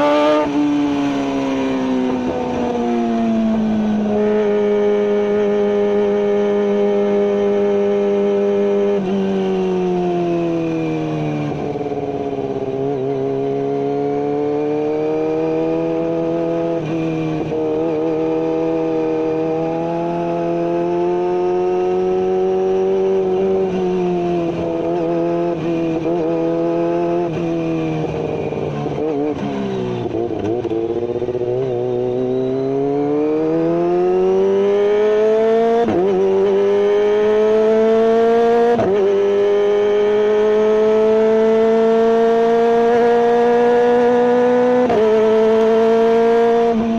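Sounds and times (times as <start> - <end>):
motorcycle engine at high revs: 0.0 - 46.9.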